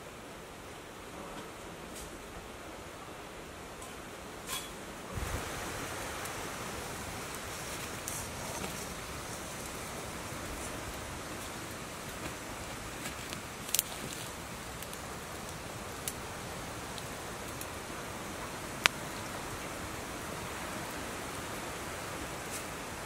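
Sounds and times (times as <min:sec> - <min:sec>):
wood fire crackling: 0:03.8 - 0:23.0.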